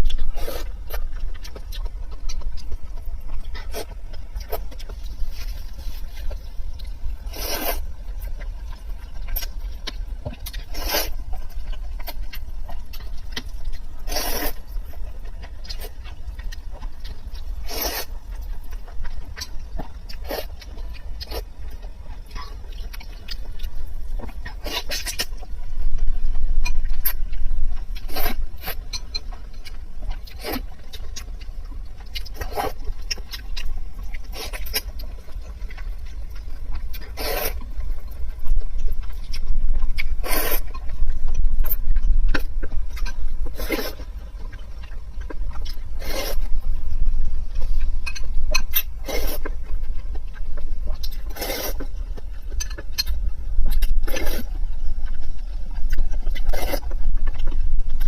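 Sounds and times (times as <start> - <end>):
chewing and mouth smacks: 0.0 - 58.0
steady low rumble: 0.0 - 58.0.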